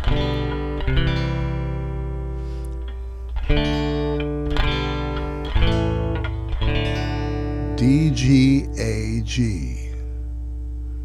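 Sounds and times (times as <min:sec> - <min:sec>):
guitar chords strummed: 0:00.0 - 0:11.0.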